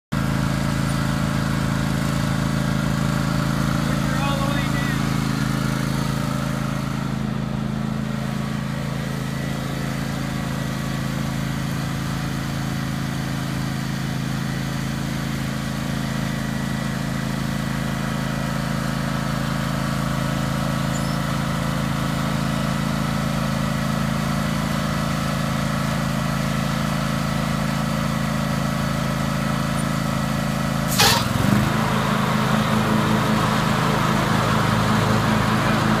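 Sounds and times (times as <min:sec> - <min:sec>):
riding mower engine running: 0:00.1 - 0:36.0.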